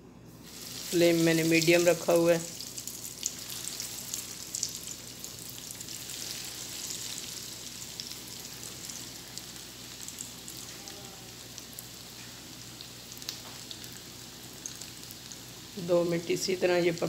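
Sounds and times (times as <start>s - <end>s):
food sizzling in oil: 0.4s - 17.0s.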